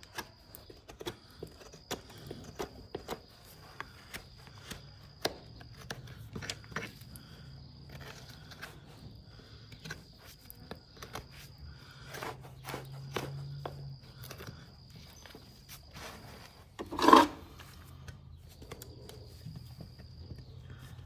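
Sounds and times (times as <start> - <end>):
tools clicking and scraping hoof: 0.0 - 21.0.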